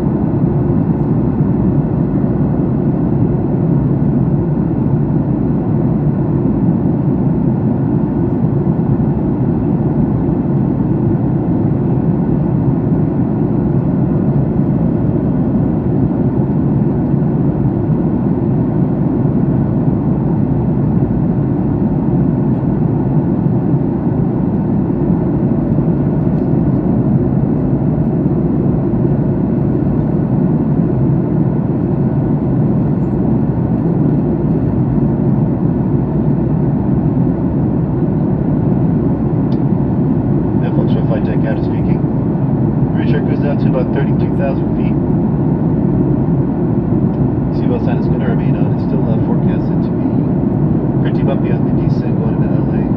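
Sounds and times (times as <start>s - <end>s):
jet airliner cabin roar: 0.0s - 52.9s.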